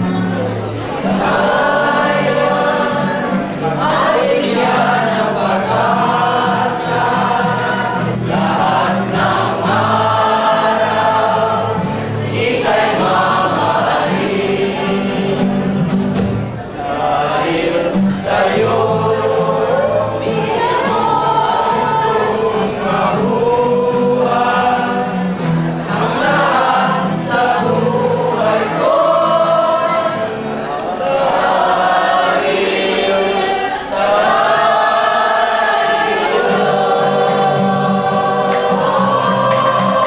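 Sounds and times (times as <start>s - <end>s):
acoustic guitar strumming: 0.0s - 40.0s
group singing in chorus: 0.0s - 40.0s.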